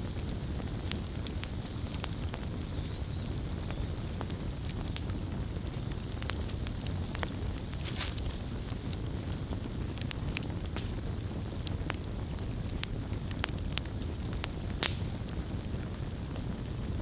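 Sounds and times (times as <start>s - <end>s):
campfire snapping and popping: 0.0s - 17.0s
low rumble of fire: 0.0s - 17.0s.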